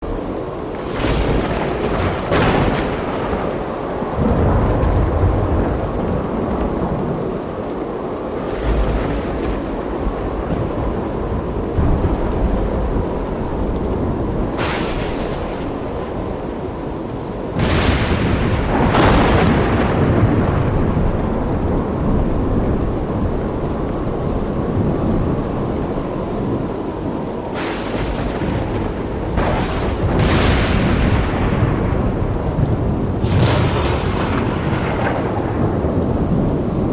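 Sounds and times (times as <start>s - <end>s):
heavy rain: 0.0s - 36.9s
thunder claps rumbling: 0.0s - 36.9s.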